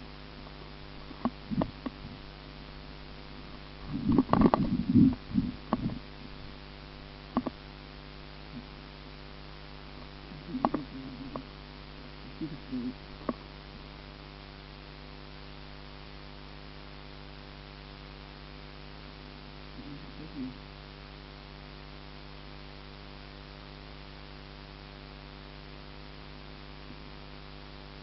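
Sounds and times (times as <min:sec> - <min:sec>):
low electrical hum with hiss: 0:00.0 - 0:28.0.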